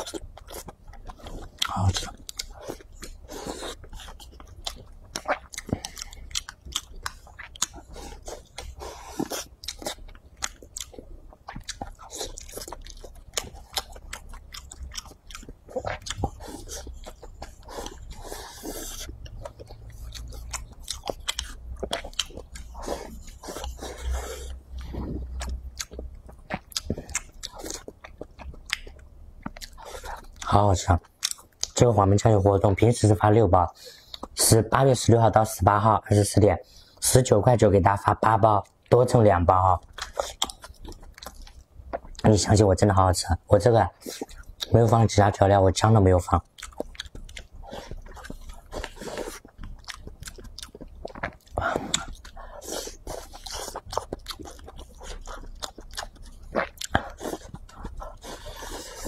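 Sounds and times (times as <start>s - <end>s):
wet chewing: 0.0s - 31.8s, 39.8s - 42.3s, 43.9s - 45.0s, 46.3s - 59.0s.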